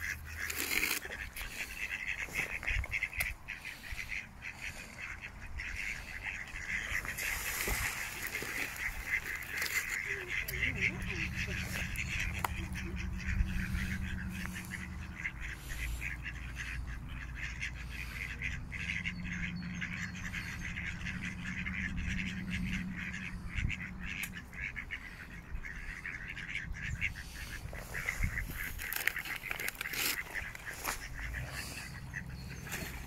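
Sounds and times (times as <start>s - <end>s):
ducks quacking: 0.0s - 33.0s
low steady rumble: 1.5s - 29.5s.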